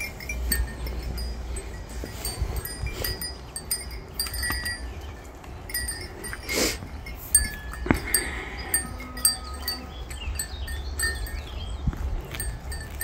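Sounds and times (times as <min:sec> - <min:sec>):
low wind rumble on microphone: 0:00.0 - 0:13.0
sheep bells tinkling: 0:00.0 - 0:13.0.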